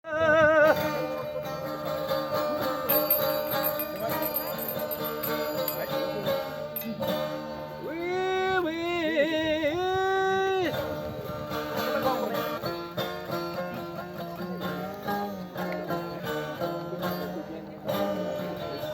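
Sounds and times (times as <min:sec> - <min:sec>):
plucked string instrument: 0:00.0 - 0:18.9.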